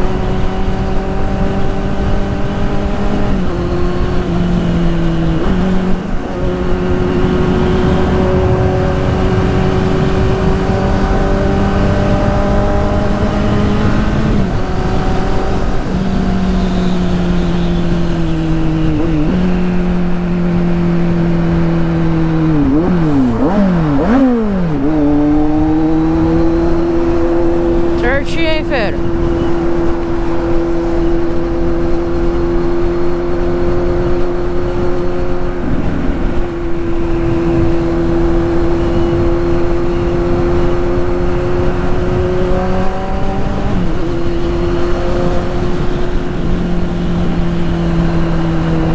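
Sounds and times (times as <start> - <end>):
motorcycle engine running loudly: 0.0 - 28.0, 29.0 - 48.9.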